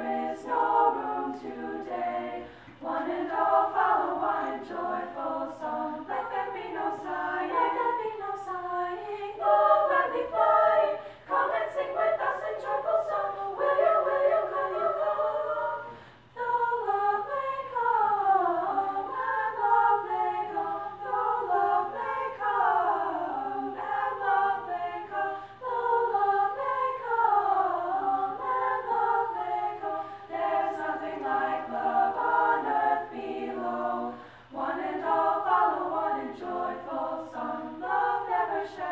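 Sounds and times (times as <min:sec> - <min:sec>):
women singing a cappella: 0:00.0 - 0:38.9.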